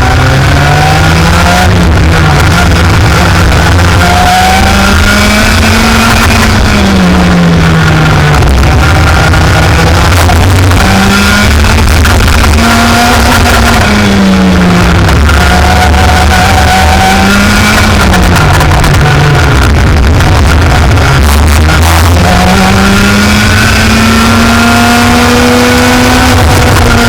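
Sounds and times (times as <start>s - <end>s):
kart engine revving: 0.0s - 27.0s.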